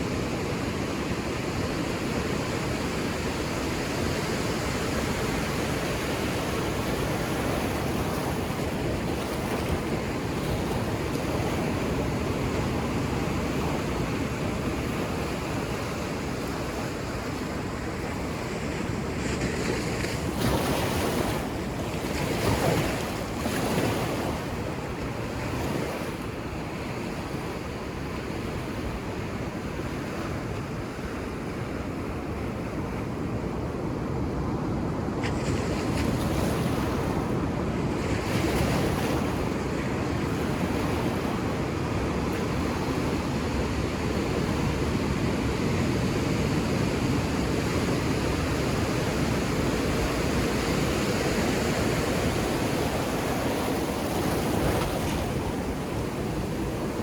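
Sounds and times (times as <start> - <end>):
ocean waves breaking on beach: 0.0 - 57.0
wind on microphone: 1.4 - 57.0.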